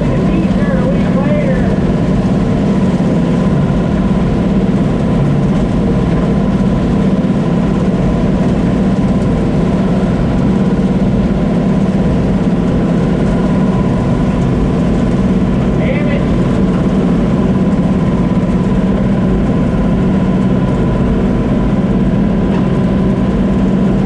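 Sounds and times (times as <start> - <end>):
combine harvester engine drone: 0.0 - 24.0
steady higher whine: 0.0 - 24.0.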